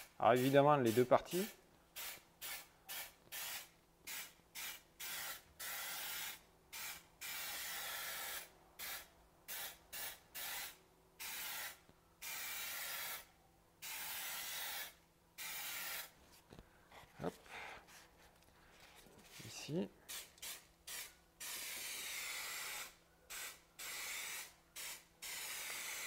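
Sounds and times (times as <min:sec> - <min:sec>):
aerosol spray can hissing: 0:00.0 - 0:16.1, 0:20.1 - 0:26.0.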